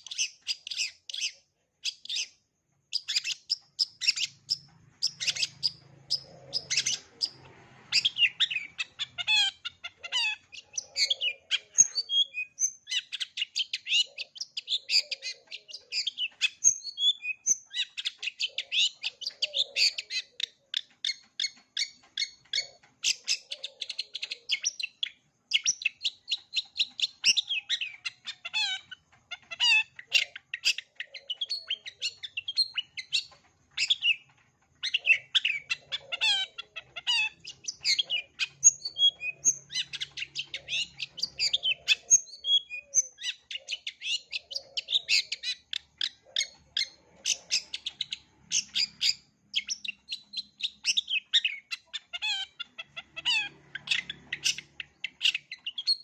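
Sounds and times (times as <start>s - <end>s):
bird singing chirps: 0.0s - 56.0s.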